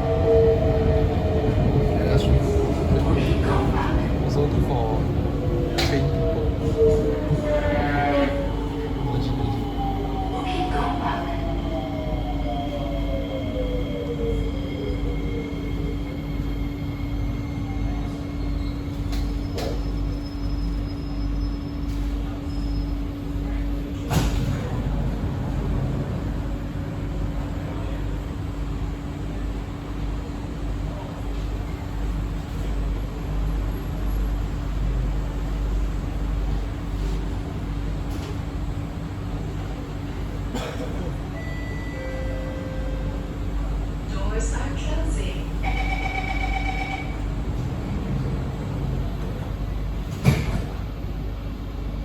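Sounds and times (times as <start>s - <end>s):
train cabin rumble and hum: 0.0s - 52.0s.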